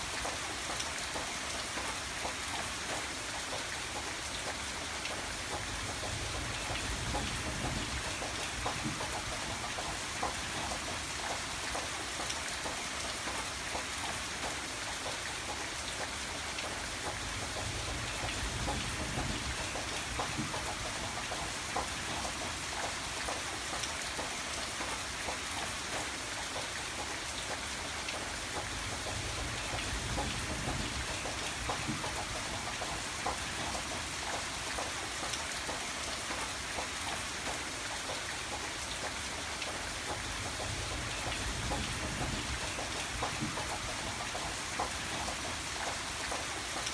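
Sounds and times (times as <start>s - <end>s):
rain pattering on a surface: 0.0s - 46.9s.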